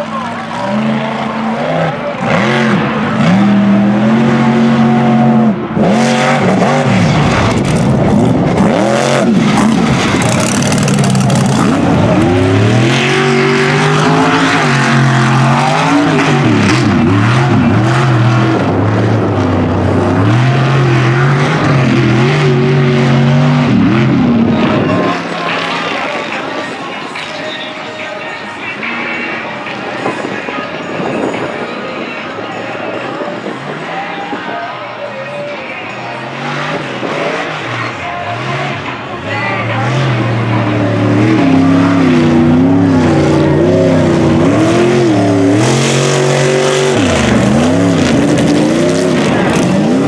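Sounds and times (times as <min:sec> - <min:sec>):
truck engine revving hard: 0:00.0 - 0:27.4, 0:35.8 - 0:50.0.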